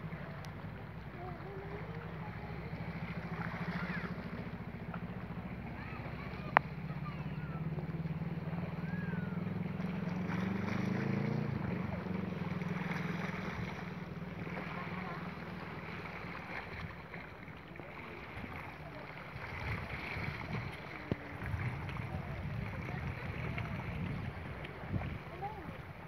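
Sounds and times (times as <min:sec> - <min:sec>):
boat engine droning: 0:00.0 - 0:26.0
water: 0:00.0 - 0:26.0
wind: 0:00.0 - 0:26.0.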